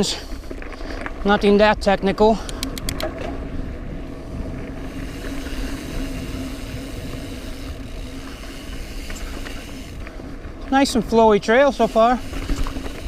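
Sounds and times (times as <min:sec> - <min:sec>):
mountain bike rolling on dirt: 0:00.0 - 0:13.0.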